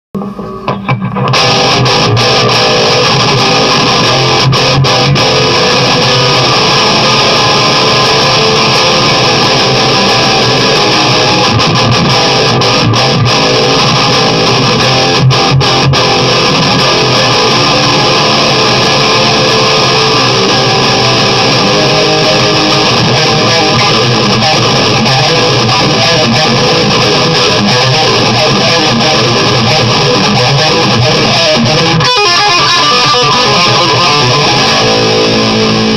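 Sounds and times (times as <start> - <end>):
distorted electric guitar riffs: 0.2 - 35.9.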